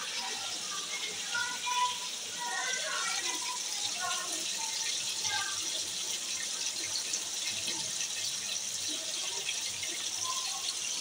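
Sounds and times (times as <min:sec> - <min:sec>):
patties sizzling in a pan: 0:00.0 - 0:11.0.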